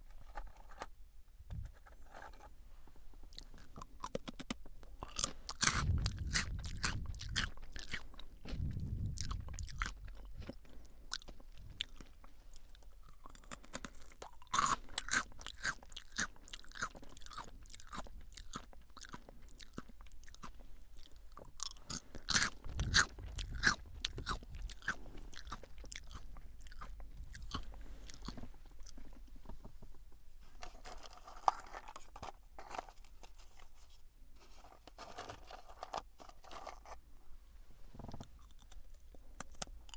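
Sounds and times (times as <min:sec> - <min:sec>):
chewing crunchy potato sticks: 0:03.2 - 0:29.7, 0:30.5 - 0:33.8, 0:34.6 - 0:37.1, 0:37.9 - 0:39.9.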